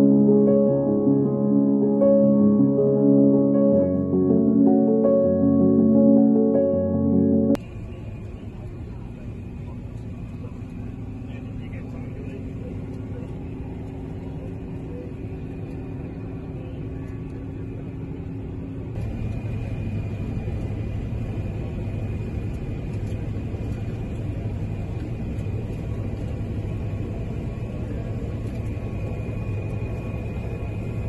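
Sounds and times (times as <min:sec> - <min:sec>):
combine harvester engine drone: 0:00.0 - 0:31.0.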